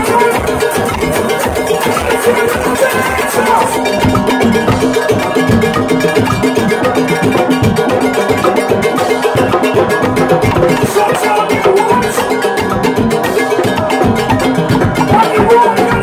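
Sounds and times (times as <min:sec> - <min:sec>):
drums beating: 0:00.0 - 0:16.0
struck ringing metal percussion: 0:00.0 - 0:16.0.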